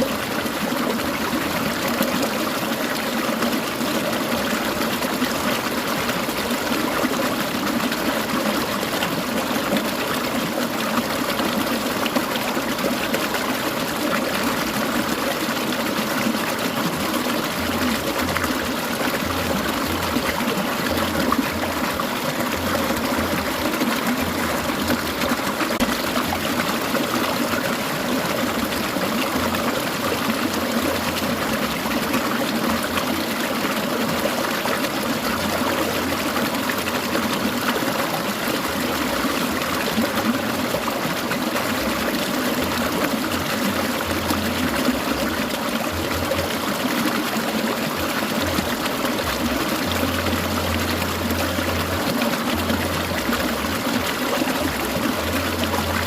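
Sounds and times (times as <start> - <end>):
low water gurgle: 0.0 - 56.0
stream babbling: 0.0 - 56.0.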